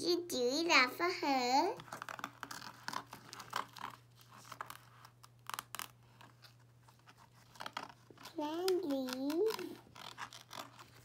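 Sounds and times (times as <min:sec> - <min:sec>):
fastening tabs ripping and rustling: 0:01.8 - 0:11.0.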